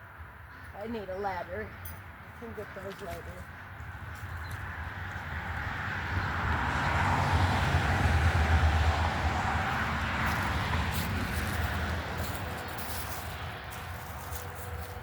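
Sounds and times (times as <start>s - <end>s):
road vehicle passing by: 0.1s - 15.0s.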